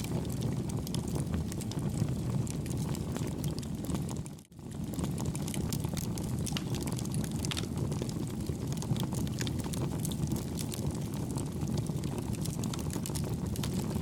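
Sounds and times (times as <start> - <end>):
burning wood crackling: 0.0 - 14.0
campfire flames rumbling: 0.0 - 14.0.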